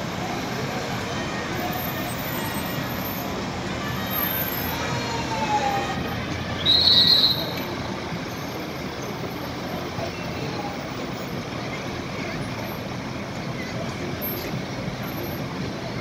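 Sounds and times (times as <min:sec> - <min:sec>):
crowd murmur: 0:00.0 - 0:16.0
traffic noise: 0:00.0 - 0:16.0.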